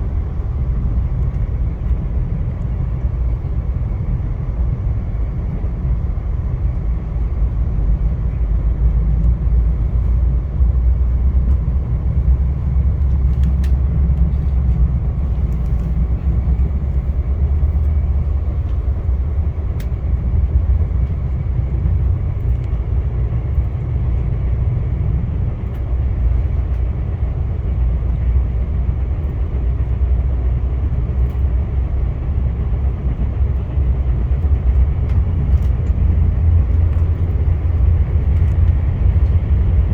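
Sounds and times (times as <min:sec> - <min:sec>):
passenger train rumbling on track: 0:00.0 - 0:39.9.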